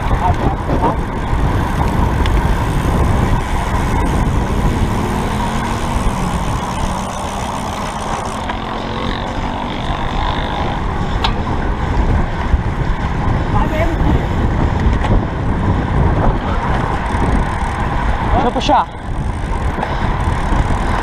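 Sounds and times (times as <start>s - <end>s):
road noise: 0.0s - 21.0s
wind rushing over microphone: 0.0s - 21.0s.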